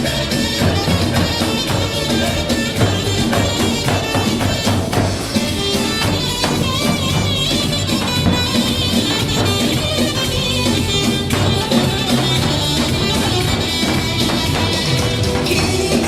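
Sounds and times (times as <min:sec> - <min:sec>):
upbeat folk dance music: 0:00.0 - 0:16.0.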